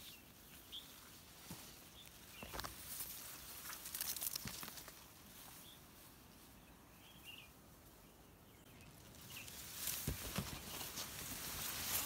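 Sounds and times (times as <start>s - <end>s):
dry grass rustling underfoot: 0.0s - 8.1s, 8.8s - 12.0s.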